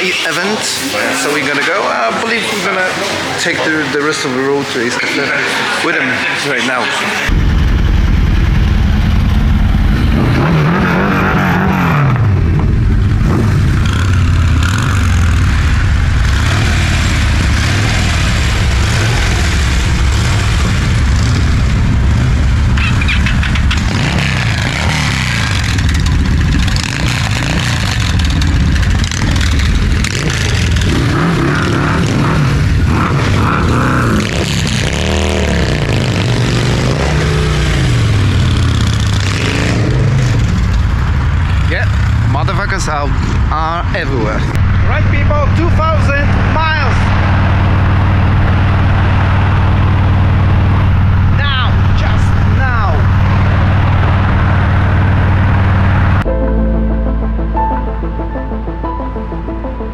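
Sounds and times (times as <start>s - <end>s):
motorcycle engines accelerating: 0.0s - 56.3s.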